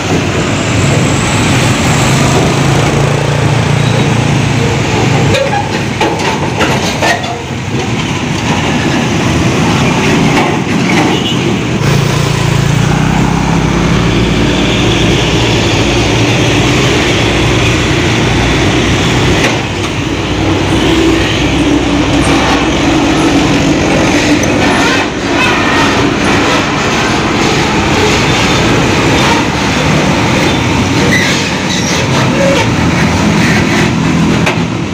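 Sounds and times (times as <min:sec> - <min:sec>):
road noise: 0:00.0 - 0:34.9
truck diesel engine under load: 0:00.0 - 0:34.9.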